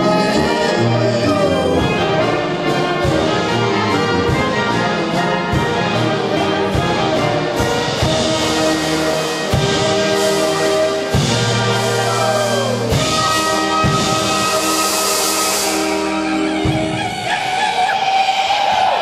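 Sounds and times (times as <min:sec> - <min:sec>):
brass band playing folk tune: 0:00.0 - 0:18.5.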